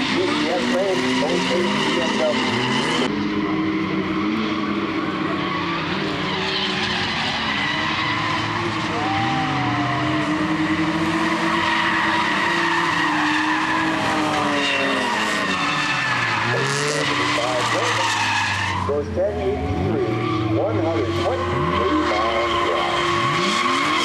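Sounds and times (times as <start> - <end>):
drag racing engines revving: 0.0 - 24.0
engine and tyre noise: 0.0 - 24.0.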